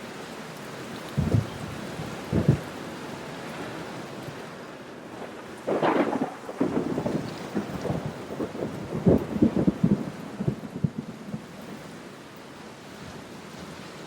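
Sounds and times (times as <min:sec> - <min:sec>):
rain on window pane: 0:00.5 - 0:11.9.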